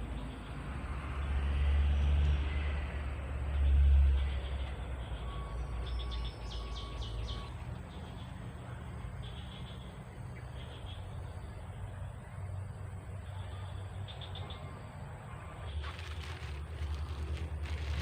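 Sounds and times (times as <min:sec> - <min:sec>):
vehicles passing on road: 0:00.0 - 0:18.0.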